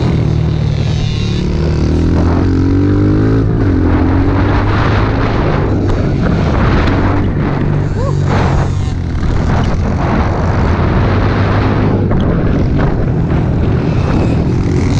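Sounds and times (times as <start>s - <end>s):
pit bike engine revving: 0.0s - 14.9s
wind and riding noise: 0.0s - 14.9s.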